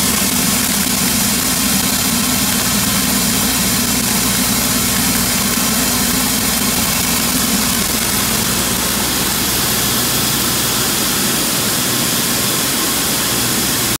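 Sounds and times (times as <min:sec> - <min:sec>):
sorting machine humming: 0:00.0 - 0:14.0.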